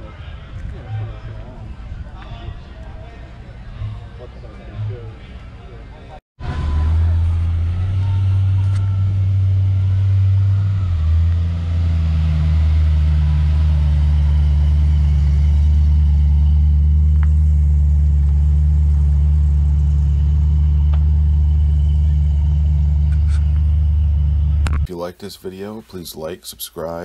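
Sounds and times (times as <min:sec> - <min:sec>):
cars driving slowly past: 0:00.0 - 0:24.9.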